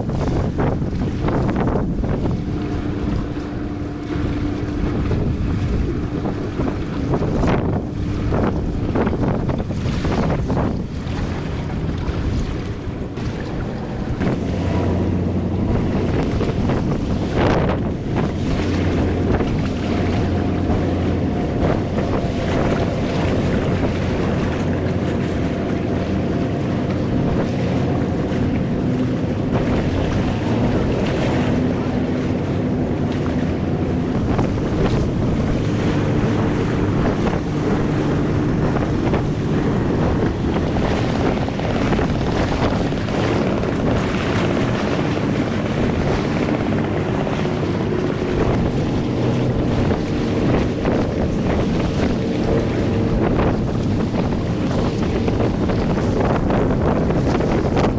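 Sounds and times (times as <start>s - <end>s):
boat engine humming: 0.0s - 57.9s
sea water washing: 0.0s - 57.9s
wind buffeting microphone: 0.0s - 57.9s.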